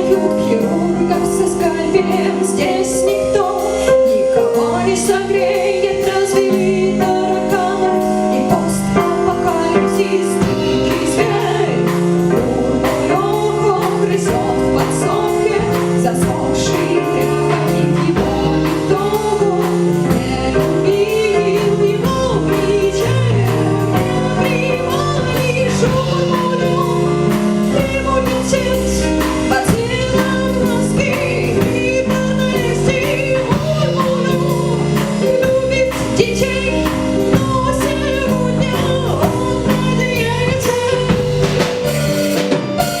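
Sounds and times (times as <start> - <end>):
woman singing: 0.0 - 41.8
drums steady beat: 0.0 - 43.0.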